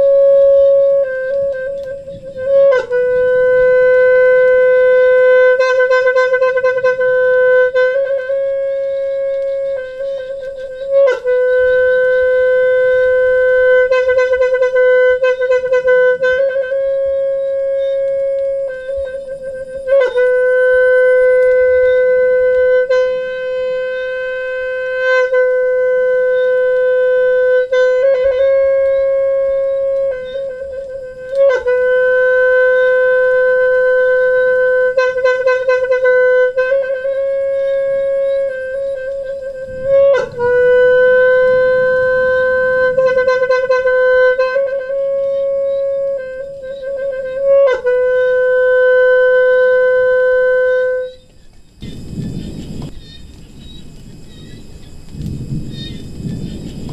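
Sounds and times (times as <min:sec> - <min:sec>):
horn blown in long notes: 0:00.0 - 0:53.0
wavering horn trills: 0:00.0 - 0:56.9.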